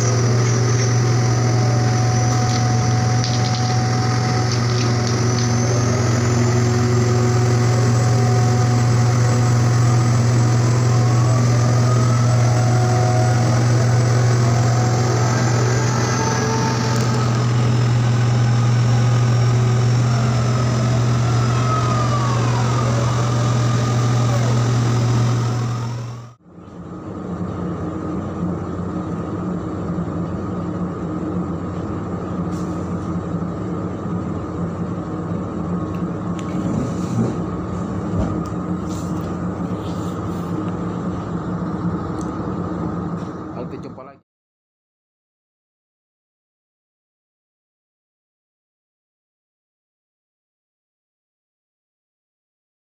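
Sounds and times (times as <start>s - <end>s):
crane machinery droning and whining: 0.0s - 44.2s
ship machinery drone indoors: 0.0s - 44.2s.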